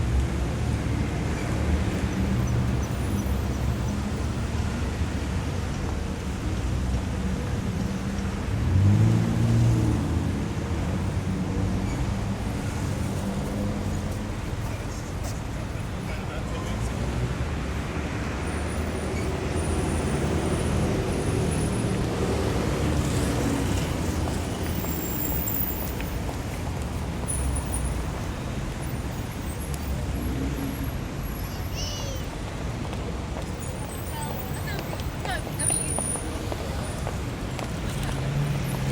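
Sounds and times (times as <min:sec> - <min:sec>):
street traffic road noise: 0:00.0 - 0:38.9.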